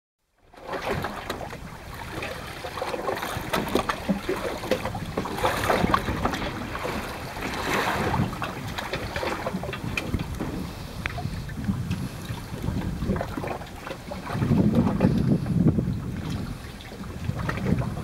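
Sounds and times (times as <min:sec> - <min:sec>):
water lapping against boat hull: 0:00.4 - 0:18.0
wind buffeting microphone: 0:00.7 - 0:18.0.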